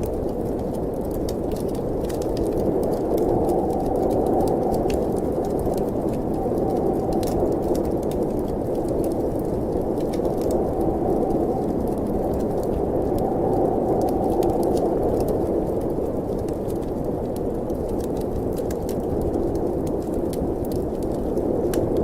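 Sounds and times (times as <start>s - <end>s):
muffled rush of wind: 0.0s - 22.0s
wood fire crackling: 0.0s - 22.0s.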